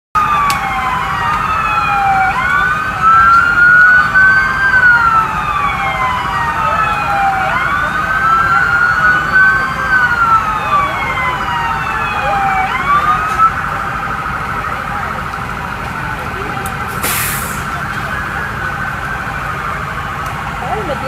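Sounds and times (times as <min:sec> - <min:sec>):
police sirens wailing: 0:00.2 - 0:21.0.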